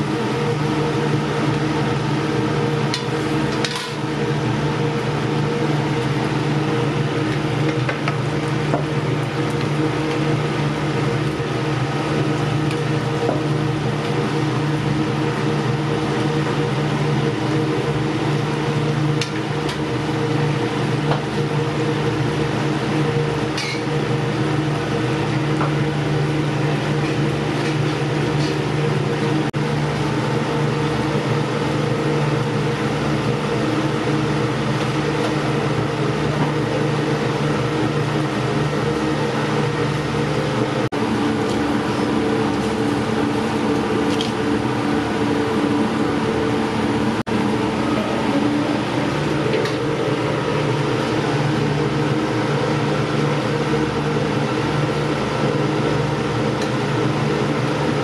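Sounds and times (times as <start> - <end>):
kitchen ventilation hum: 0.0 - 58.0.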